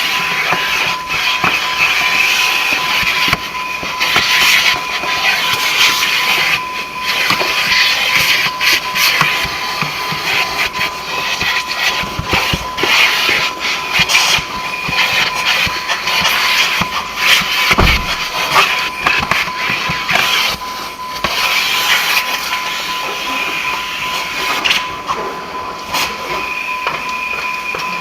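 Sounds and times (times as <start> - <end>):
vacuum hose suction with whine: 0.0 - 28.0.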